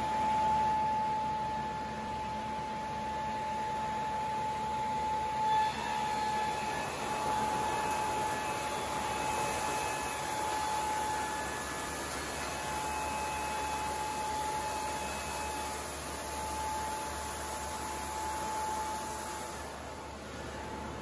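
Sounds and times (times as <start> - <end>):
belt sander hissing and whining: 3.1 - 20.9.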